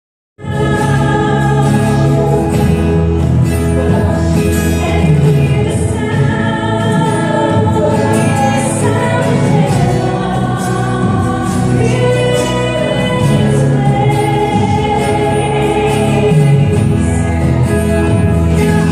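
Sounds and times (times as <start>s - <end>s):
choir singing: 0.4s - 18.9s
instrumental backing: 0.4s - 18.9s.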